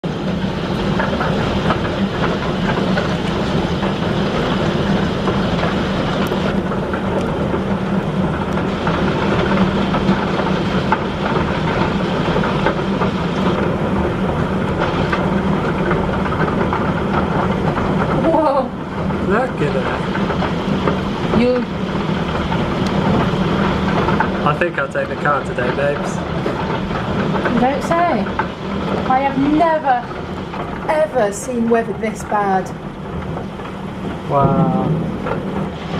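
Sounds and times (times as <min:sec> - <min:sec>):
hailstones clattering: 0:00.0 - 0:35.9.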